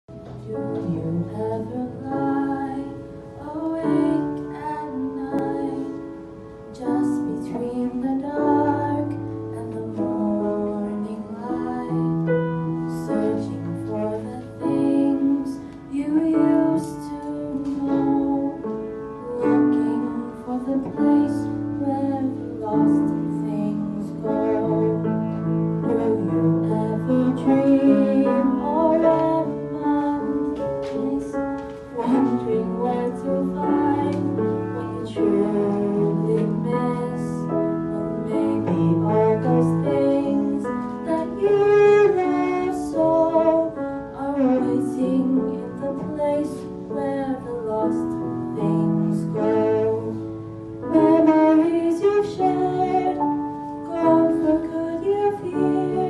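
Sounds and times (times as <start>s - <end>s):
grand piano: 0.0s - 56.0s
woman singing: 0.2s - 56.0s.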